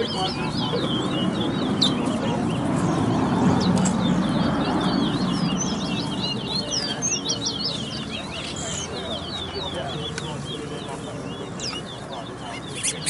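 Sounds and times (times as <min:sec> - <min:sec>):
finches singing high chirps: 0:00.0 - 0:13.0
low background murmur: 0:00.0 - 0:13.0.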